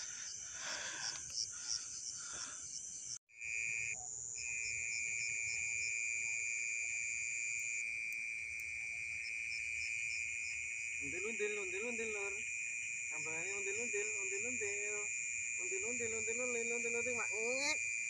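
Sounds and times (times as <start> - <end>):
night insects trilling: 0.0 - 18.0.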